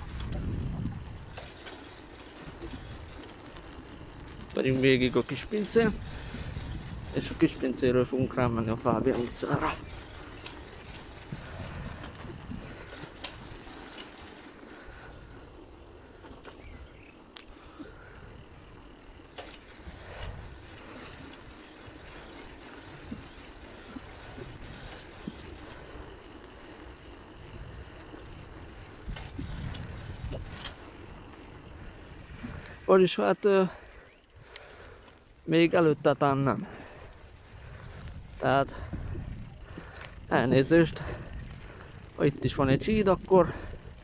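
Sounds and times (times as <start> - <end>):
wind noise: 0.0 - 15.5, 17.6 - 32.9, 35.9 - 44.0
faint clicks and rattles: 0.0 - 44.0
road noise: 0.0 - 44.0
rolling on asphalt: 0.0 - 44.0.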